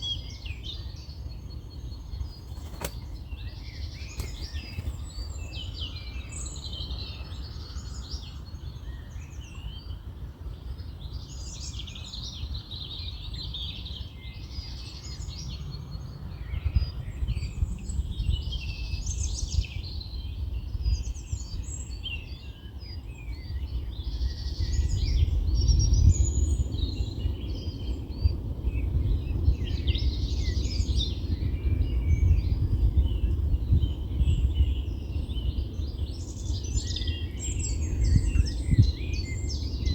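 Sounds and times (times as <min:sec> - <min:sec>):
small birds singing and chirping: 0:00.0 - 0:39.9
wind rumble on microphone: 0:00.0 - 0:39.9.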